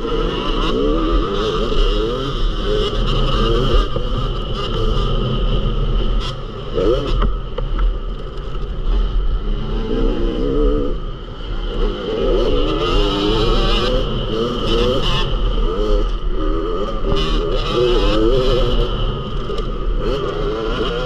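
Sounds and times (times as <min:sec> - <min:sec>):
motocross bike engine revving: 0:00.0 - 0:07.7, 0:08.5 - 0:21.0.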